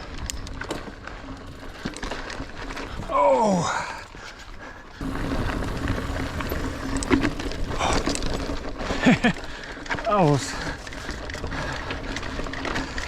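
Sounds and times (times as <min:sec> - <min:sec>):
bike tyres rumbling on dirt: 0:00.0 - 0:13.0.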